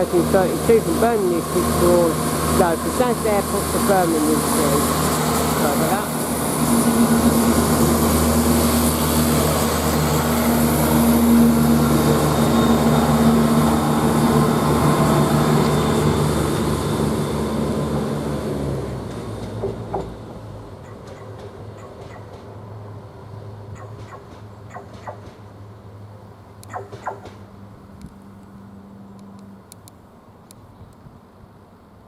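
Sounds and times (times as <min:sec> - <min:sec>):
diesel train engines droning: 0:00.0 - 0:30.4.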